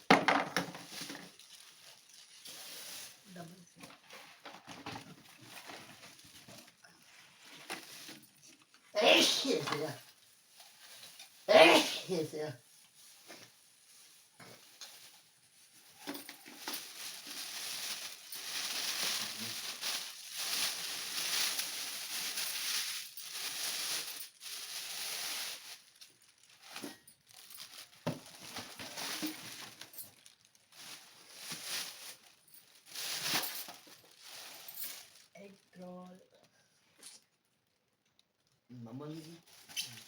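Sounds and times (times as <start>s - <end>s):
plastic and cardboard crinkling: 0.0s - 8.9s, 12.6s - 36.2s, 39.2s - 40.0s.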